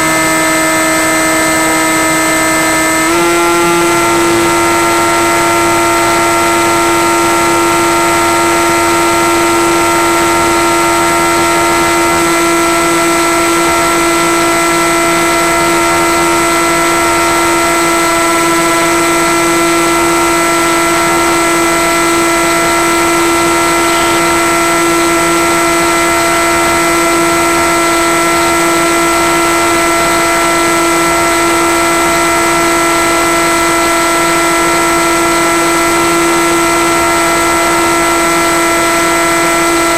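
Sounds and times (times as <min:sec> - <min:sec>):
electric propeller motor whining: 0:00.0 - 0:39.9.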